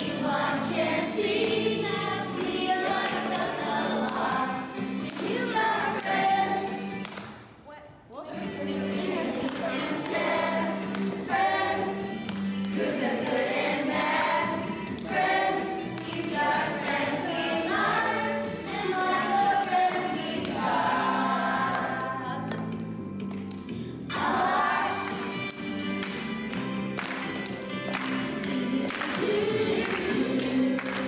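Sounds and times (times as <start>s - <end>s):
children and adults singing: 0.0s - 7.0s, 8.4s - 22.6s, 24.1s - 25.4s, 28.4s - 31.0s.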